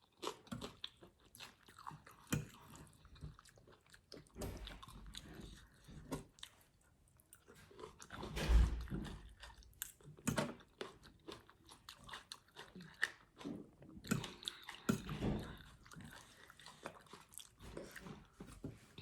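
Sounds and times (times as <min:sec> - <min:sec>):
person chewing and crunching food: 0:00.0 - 0:19.0.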